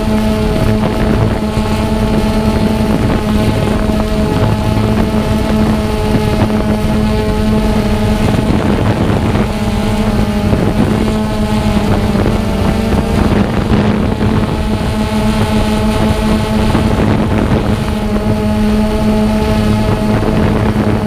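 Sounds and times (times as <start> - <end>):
drone propellers humming: 0.0 - 21.0
wind buffeting microphone: 0.0 - 21.0.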